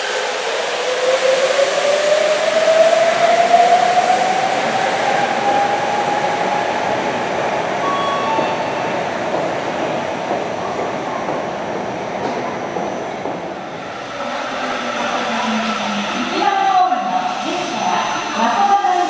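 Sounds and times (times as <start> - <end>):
rushing noise of moving train: 0.0 - 19.0.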